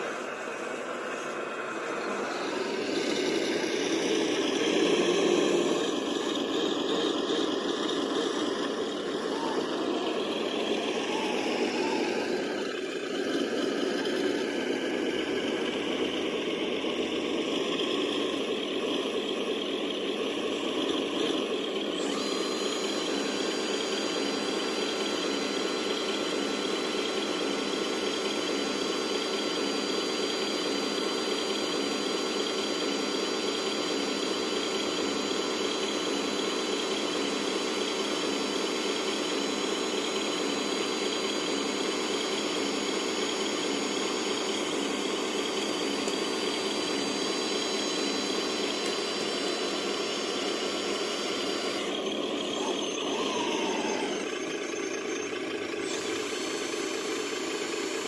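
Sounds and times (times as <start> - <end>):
heavy machine diesel engine: 0.0 - 58.0.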